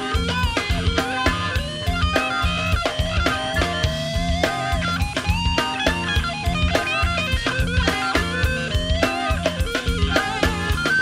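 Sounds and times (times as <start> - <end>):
bass: 0.0 - 11.0
drum kit beat: 0.0 - 11.0
electric guitar melody: 0.0 - 11.0.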